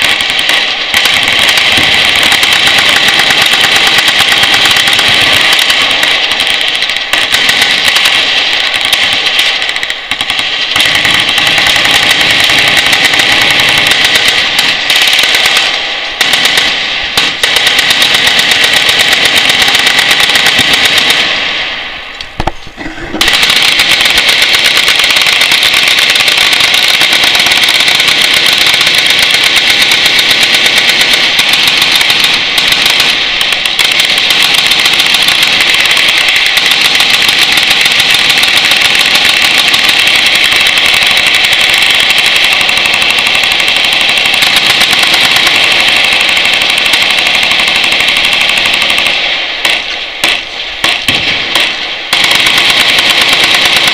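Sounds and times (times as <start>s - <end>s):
machine guns firing bursts: 0.0s - 21.7s, 23.2s - 53.9s.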